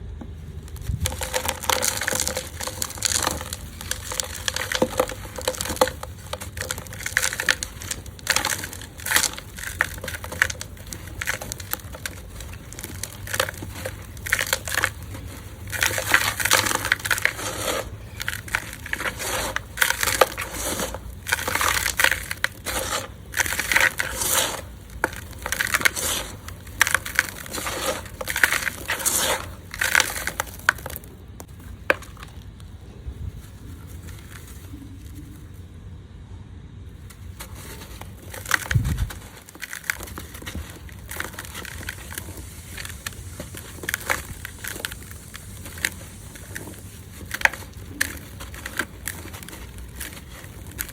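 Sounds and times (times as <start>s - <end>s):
hands crushing gritty dirt: 0.6s - 32.7s, 37.1s - 50.9s.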